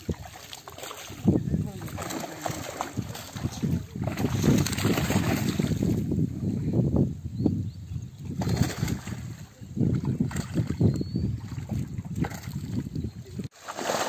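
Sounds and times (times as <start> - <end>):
water splashing and sloshing: 0.0 - 6.1, 8.2 - 14.0.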